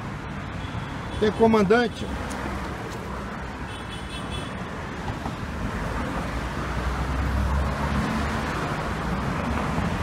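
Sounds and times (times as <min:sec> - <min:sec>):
city traffic noise: 0:00.0 - 0:10.0.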